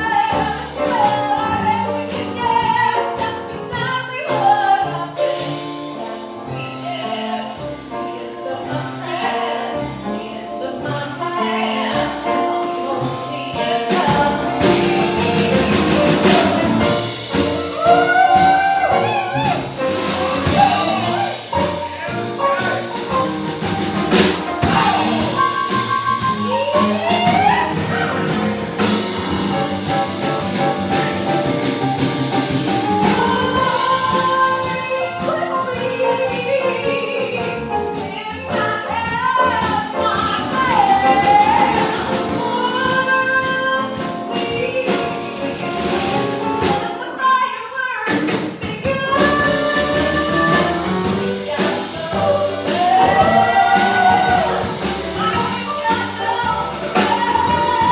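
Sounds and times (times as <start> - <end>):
band accompaniment with drums: 0.0 - 47.3, 48.0 - 57.9
person singing jazzy music: 0.0 - 57.9.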